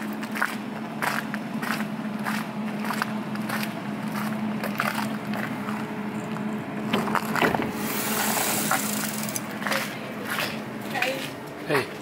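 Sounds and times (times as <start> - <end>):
tram humming: 0.0 - 12.0.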